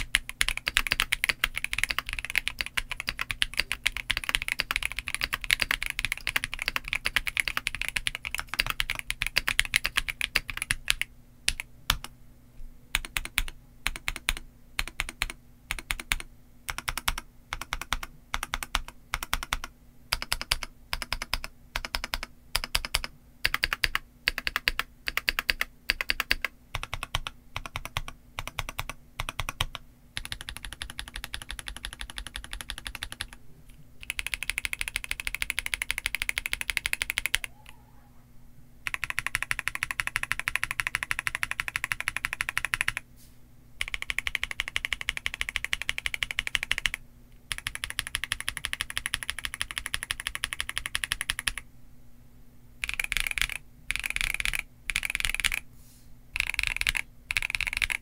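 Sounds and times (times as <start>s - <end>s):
fast typing on mechanical keyboard: 0.0s - 12.1s, 12.9s - 33.4s, 34.0s - 37.5s, 38.9s - 43.0s, 43.8s - 51.6s, 52.8s - 55.6s, 56.4s - 58.0s.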